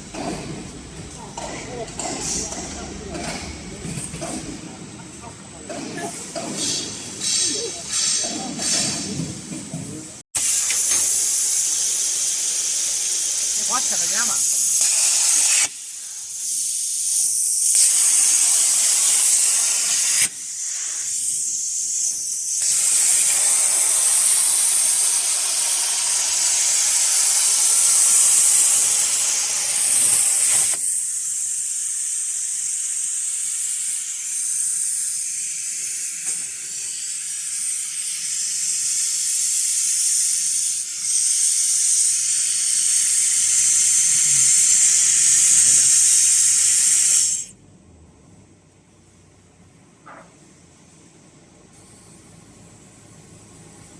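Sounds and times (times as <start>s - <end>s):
plasma torch hissing: 0.0s - 9.2s, 10.4s - 47.6s, 51.8s - 53.9s.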